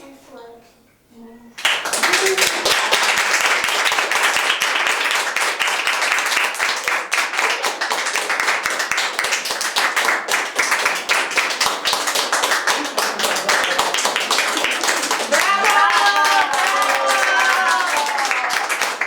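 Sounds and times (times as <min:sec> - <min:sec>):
audience applauding: 0:01.6 - 0:19.0.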